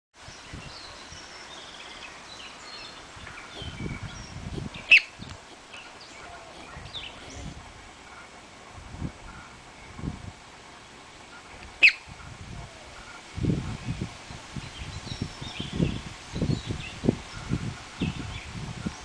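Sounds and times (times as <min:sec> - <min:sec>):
small birds chirping: 0:00.2 - 0:08.4, 0:10.8 - 0:19.0
low rumbles: 0:00.5 - 0:19.0.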